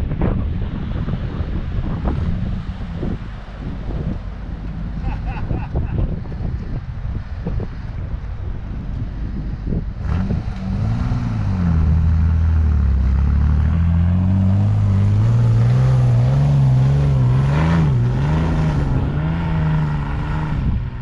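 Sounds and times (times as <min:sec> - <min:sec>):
truck engine driving through snow: 0:00.5 - 0:21.0.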